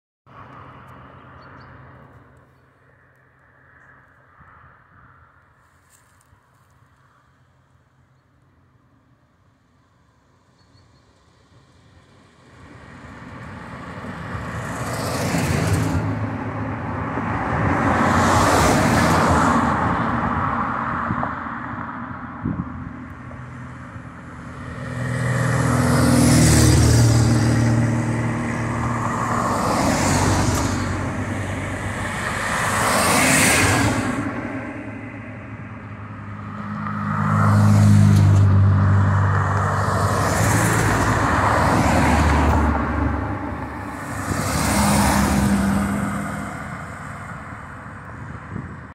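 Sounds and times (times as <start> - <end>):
cars driving past: 9.4 - 48.9.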